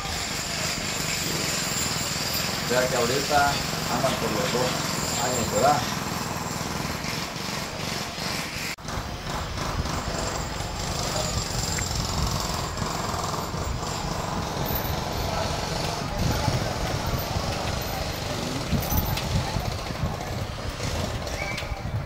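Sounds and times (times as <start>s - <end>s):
motor running with fast rattle: 0.0s - 22.0s.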